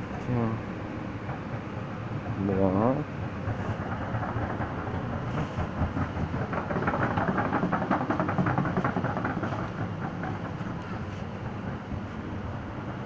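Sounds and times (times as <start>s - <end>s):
steady low hum: 0.0s - 13.0s
rapid rattling clatter: 1.2s - 13.0s.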